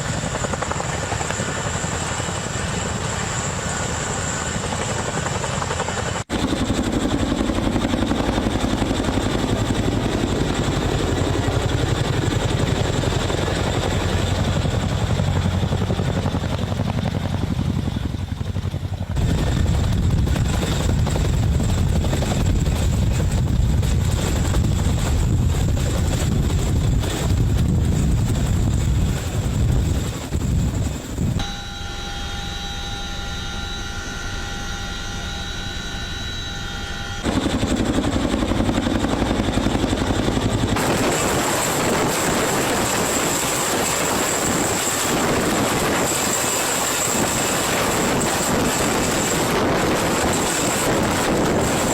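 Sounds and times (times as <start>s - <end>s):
helicopter engine whine: 0.0s - 51.9s
helicopter rotor chopping: 0.0s - 51.9s.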